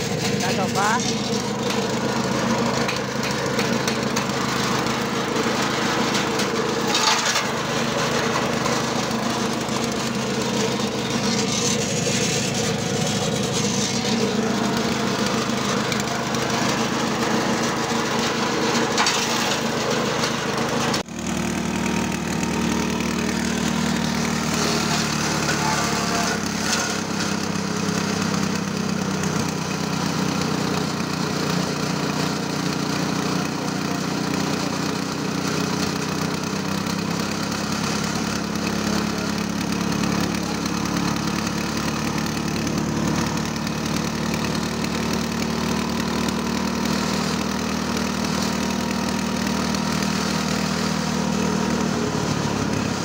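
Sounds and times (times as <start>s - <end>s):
small petrol engine running: 0.0s - 53.0s.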